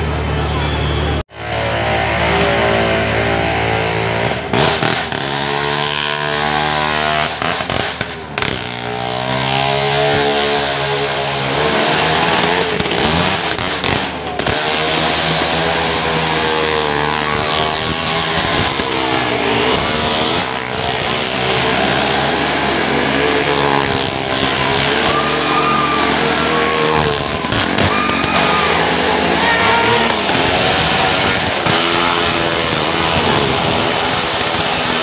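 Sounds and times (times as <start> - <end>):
motorcycle and car engines revving: 0.0 - 35.0.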